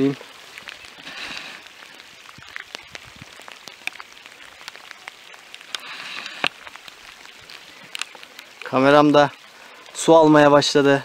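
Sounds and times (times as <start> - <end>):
rain hissing: 0.0 - 11.0
raindrops ticking nearby: 0.0 - 11.0.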